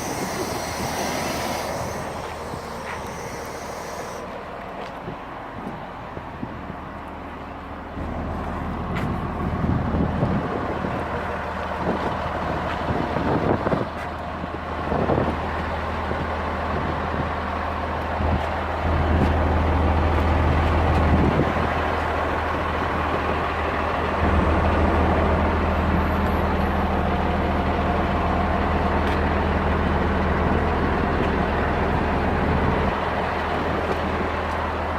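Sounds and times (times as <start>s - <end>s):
diesel engine droning: 0.0s - 34.9s.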